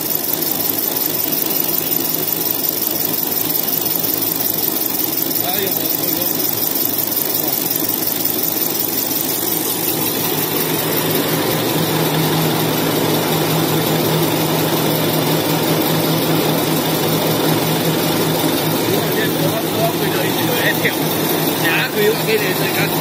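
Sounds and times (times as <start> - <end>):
machine mechanical drone: 0.0 - 23.0.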